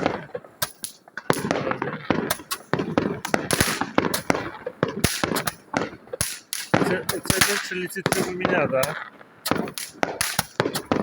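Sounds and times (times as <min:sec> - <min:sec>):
crackling hiss: 0:00.0 - 0:11.0
fireworks popping and banging: 0:00.0 - 0:11.0.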